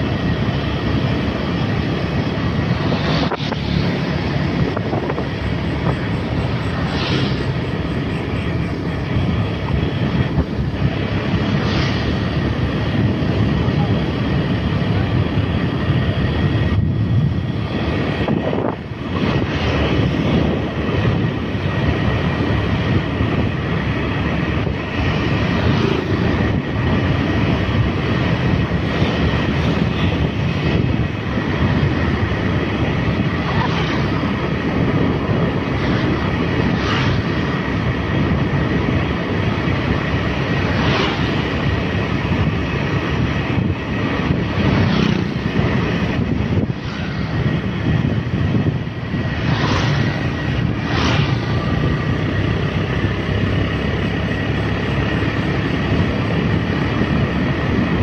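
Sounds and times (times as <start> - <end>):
motorbike engine rumble: 0.0 - 58.0
wind and road noise: 0.0 - 58.0.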